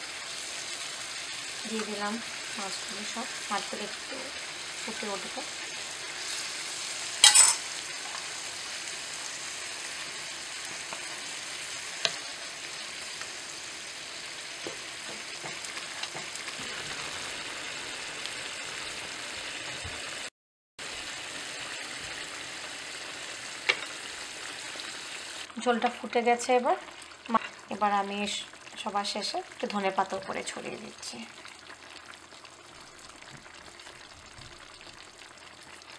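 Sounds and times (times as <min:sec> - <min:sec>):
curry simmering and sizzling in pan: 0:00.0 - 0:35.9.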